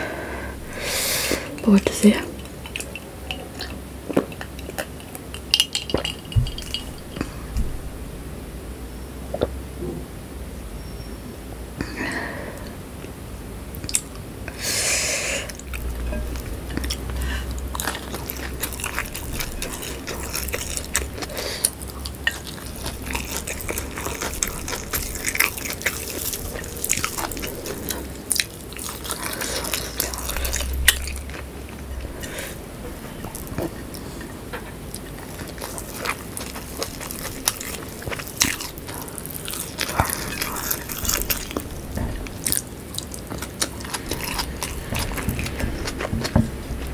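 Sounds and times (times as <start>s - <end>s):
person chewing crunchy food: 2.4s - 7.6s, 13.8s - 46.9s.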